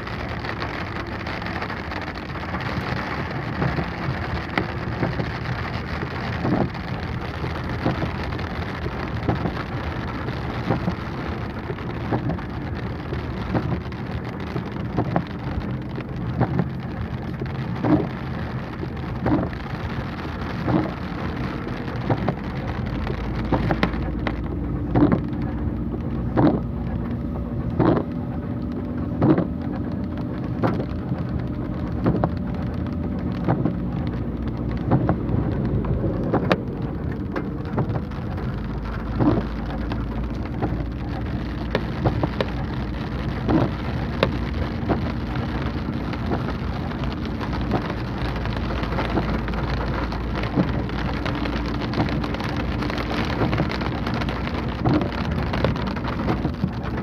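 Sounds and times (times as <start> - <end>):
engine hum: 0.0 - 57.0
heavy rain drumming on car: 0.0 - 57.0
windshield wipers knocking: 0.0 - 57.0.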